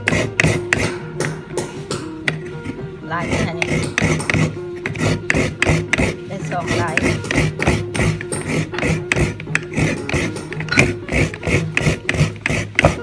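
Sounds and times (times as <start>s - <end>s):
coconut grating scrapes: 0.0s - 13.0s
soft background music: 0.0s - 13.0s.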